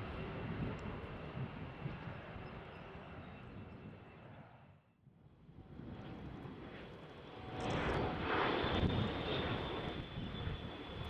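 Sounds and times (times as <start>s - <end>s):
jet engines rushing with high whine: 0.0s - 11.0s.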